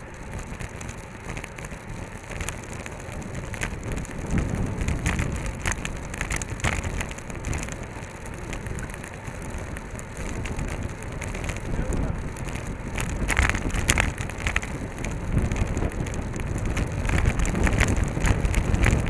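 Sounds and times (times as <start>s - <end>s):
bicycle clicks and rattles: 0.0s - 19.0s
wind and road noise: 0.0s - 19.0s
wind buffeting: 0.0s - 19.0s.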